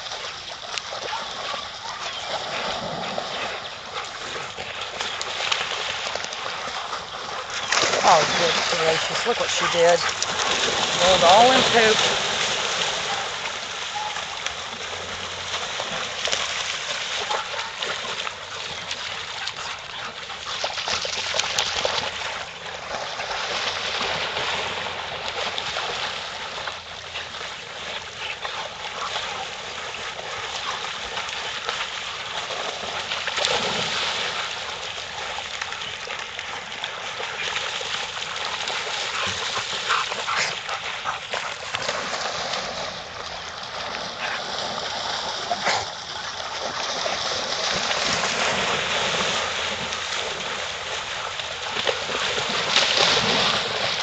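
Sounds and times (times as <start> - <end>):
dogs splashing in water: 0.0 - 54.0.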